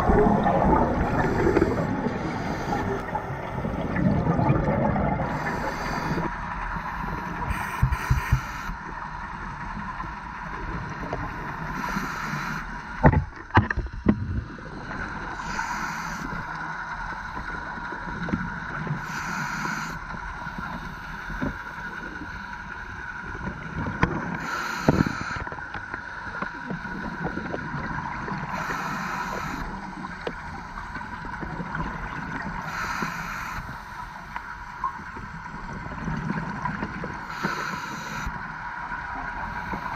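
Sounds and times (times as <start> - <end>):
exhaled bubbles hissing: 0.0 - 13.1, 14.5 - 25.5, 26.3 - 39.9
steady underwater hum: 0.0 - 39.9.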